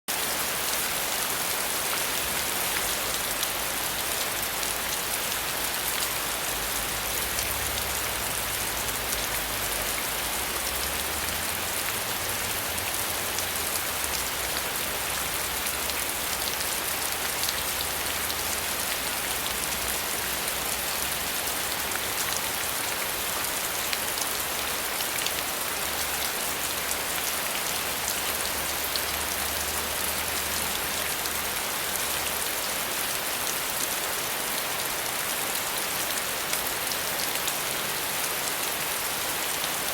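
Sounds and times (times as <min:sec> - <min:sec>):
steady rainfall: 0:00.1 - 0:39.9.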